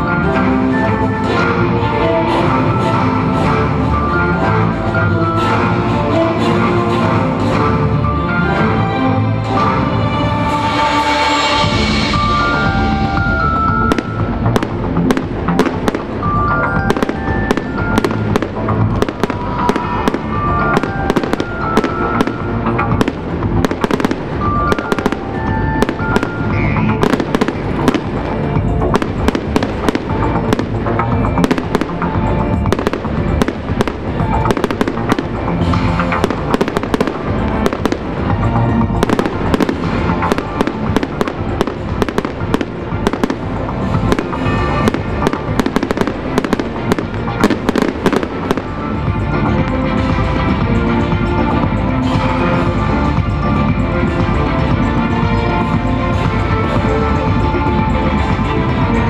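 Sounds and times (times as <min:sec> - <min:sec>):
music playing: 0:00.0 - 0:59.0
fireworks bangs and crackles: 0:11.7 - 0:59.0.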